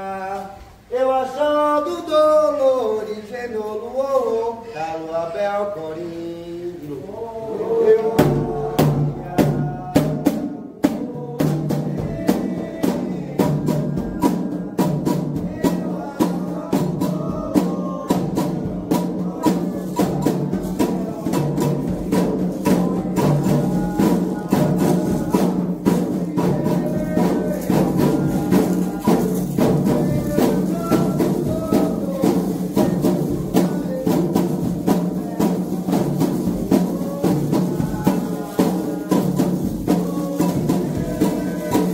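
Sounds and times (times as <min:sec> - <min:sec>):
voices singing a chant: 0:00.0 - 0:41.9
drums and percussion beating: 0:07.8 - 0:41.9.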